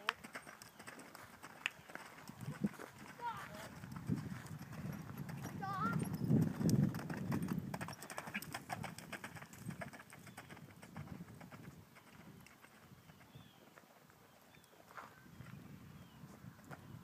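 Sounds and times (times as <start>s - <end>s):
hoofbeats cantering on sand: 0.0s - 17.0s.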